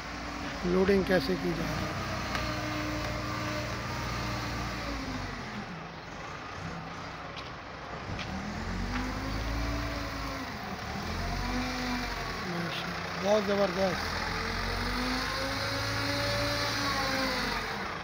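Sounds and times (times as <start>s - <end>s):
wheel loader diesel engine working: 0.0s - 18.0s.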